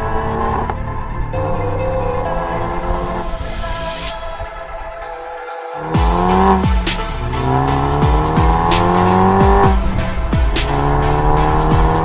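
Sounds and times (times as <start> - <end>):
car exhaust accelerating: 0.0 - 3.6, 5.8 - 12.0
electronic music with bass beat: 0.0 - 12.0.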